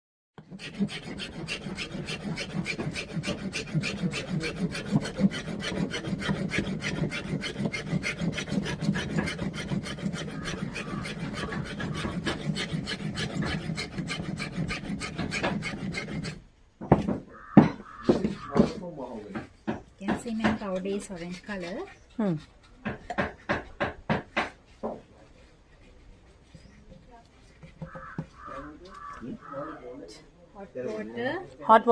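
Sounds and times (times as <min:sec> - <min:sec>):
rhythmic rasping of grinding by hand: 0:00.4 - 0:16.4, 0:17.8 - 0:28.5.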